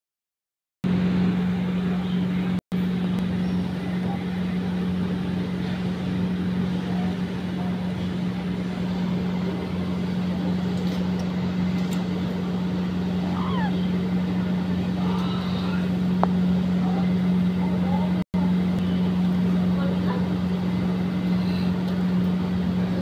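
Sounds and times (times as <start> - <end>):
low machine hum: 0.8 - 23.0.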